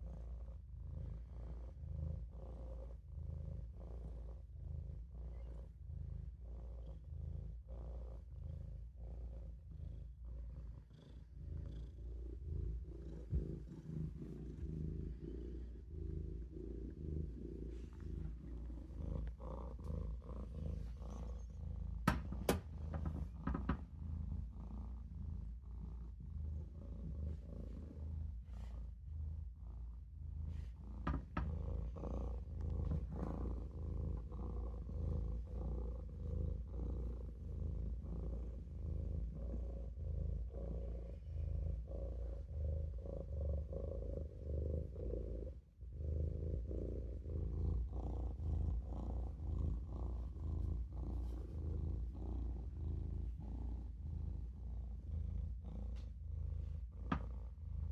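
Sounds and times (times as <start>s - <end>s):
kitten purring: 0.0s - 57.9s.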